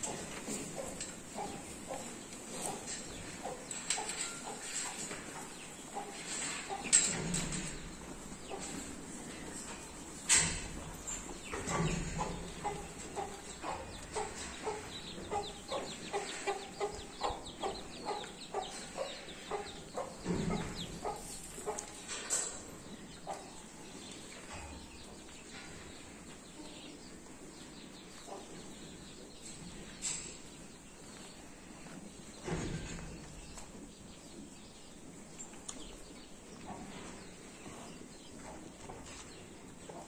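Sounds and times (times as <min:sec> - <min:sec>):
chicken clucking: 0:00.0 - 0:40.0.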